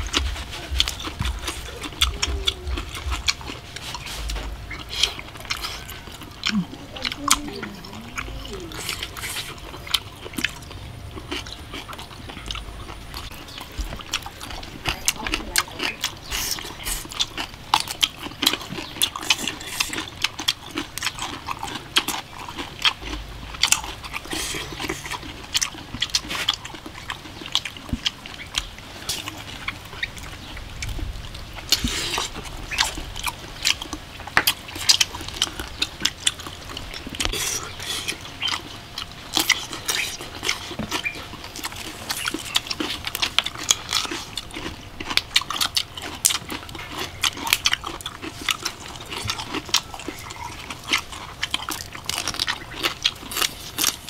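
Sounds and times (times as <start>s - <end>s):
person chewing: 0.0s - 54.0s.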